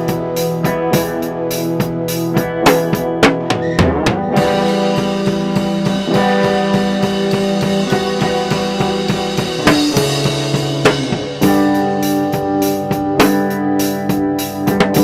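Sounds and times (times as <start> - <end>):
drum kit steady beat: 0.0 - 15.0.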